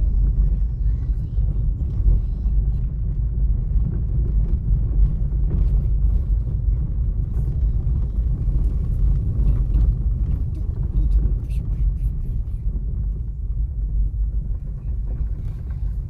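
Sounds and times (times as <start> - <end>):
car engine and tyres rumbling: 0.0 - 16.0
gravel ticking: 0.0 - 16.0.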